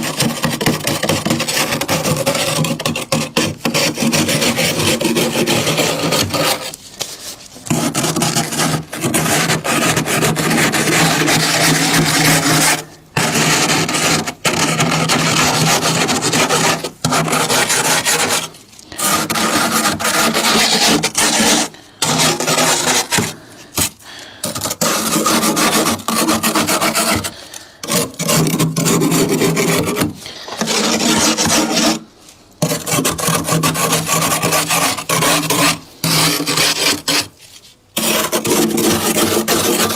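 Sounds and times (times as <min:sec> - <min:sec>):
freezer frost being scraped: 0:00.0 - 0:39.9.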